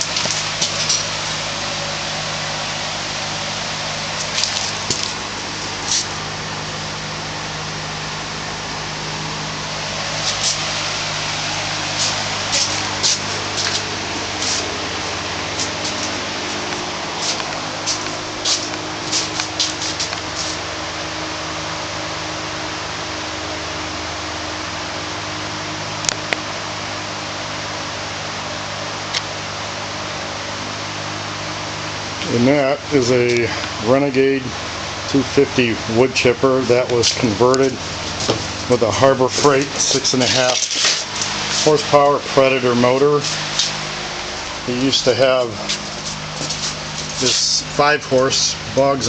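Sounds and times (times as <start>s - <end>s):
wood chipper engine running: 0.0s - 49.0s.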